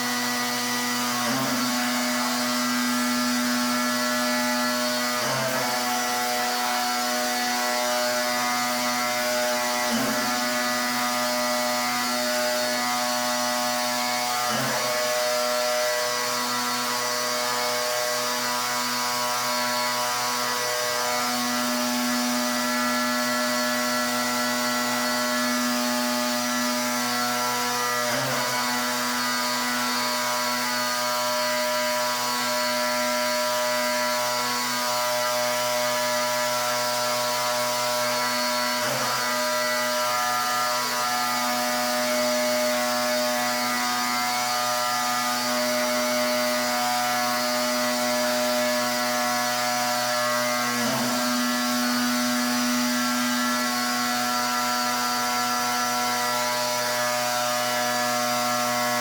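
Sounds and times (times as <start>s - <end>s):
pressure washer motor hum: 0.0s - 59.0s.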